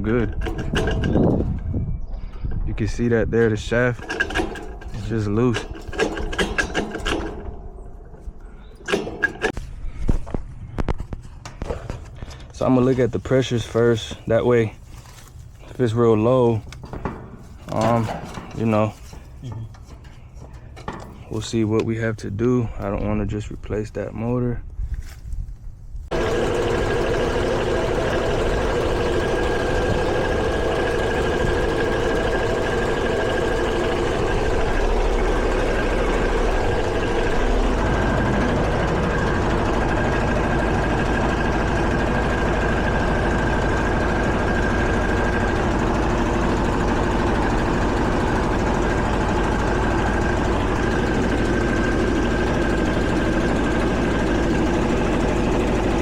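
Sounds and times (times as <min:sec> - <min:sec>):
air conditioning unit humming: 0:00.0 - 0:24.2, 0:26.1 - 0:56.0.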